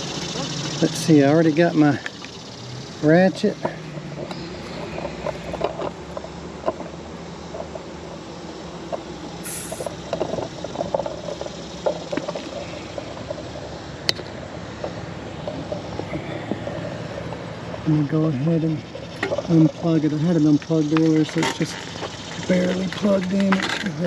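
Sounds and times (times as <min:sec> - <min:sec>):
steady low background hum: 0:00.0 - 0:24.0.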